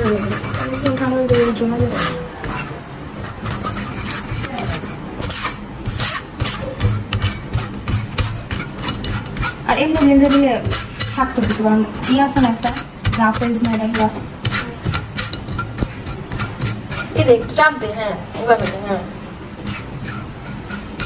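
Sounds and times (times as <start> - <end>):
spoon scraping through wire strainer: 0.0 - 21.0.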